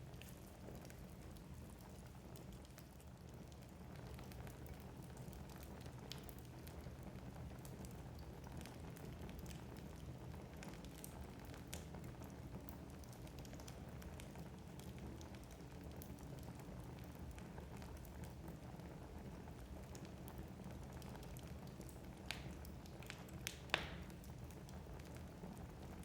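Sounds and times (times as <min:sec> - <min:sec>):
low rumble of flames: 0:00.0 - 0:26.0
logs crackling and popping: 0:00.1 - 0:26.0.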